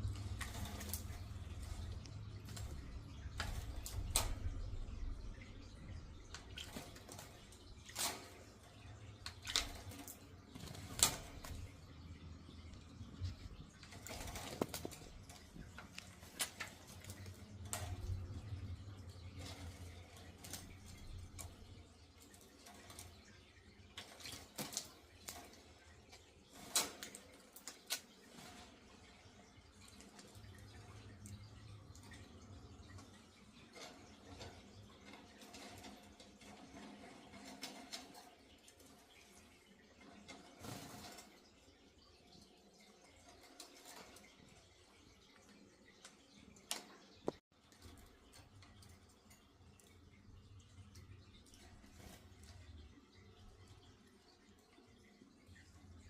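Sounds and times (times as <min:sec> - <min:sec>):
birds ticking and tapping: 0:00.0 - 0:56.0.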